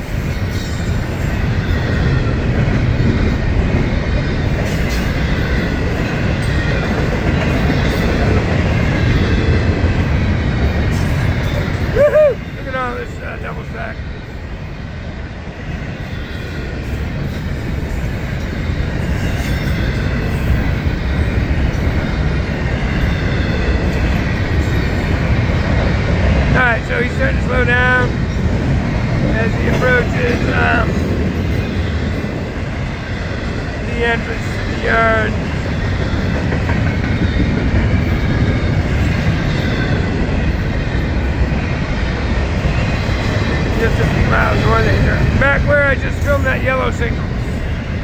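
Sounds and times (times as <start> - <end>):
freight train wheels rumbling on rails: 0.0 - 48.0.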